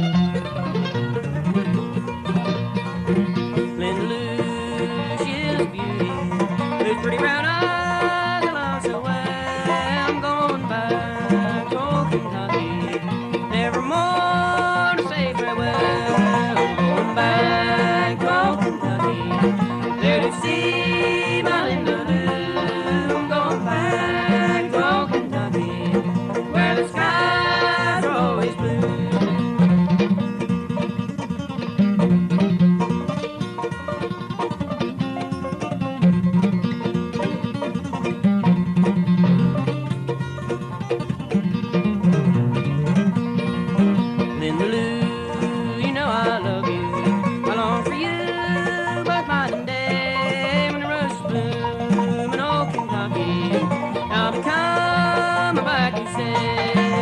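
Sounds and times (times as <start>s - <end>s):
banjo picking: 0.0s - 57.0s
bluegrass band playing: 0.0s - 57.0s.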